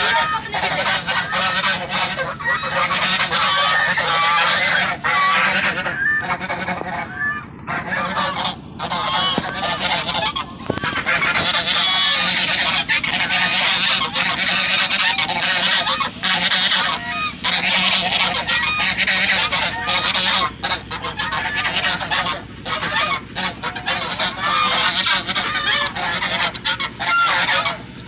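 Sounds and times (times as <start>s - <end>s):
geese honking: 0.0s - 28.0s.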